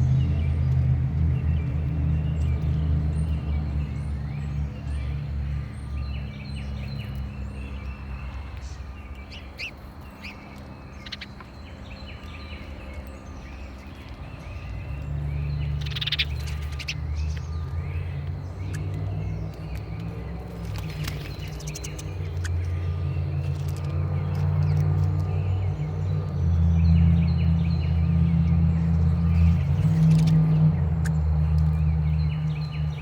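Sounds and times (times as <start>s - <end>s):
small songbirds chirping: 0.0s - 33.0s.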